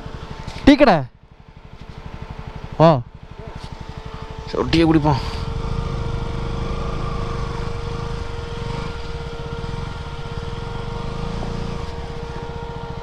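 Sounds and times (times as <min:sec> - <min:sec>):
motorcycle engine running: 0:00.0 - 0:13.0
thin steady whine: 0:00.0 - 0:13.0.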